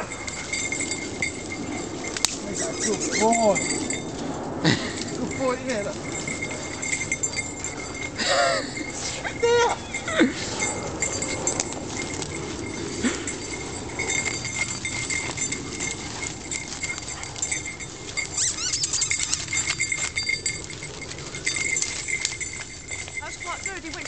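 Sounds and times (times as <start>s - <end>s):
faint high ringing: 0.0s - 24.0s
footsteps crunching dry leaves: 0.0s - 24.0s.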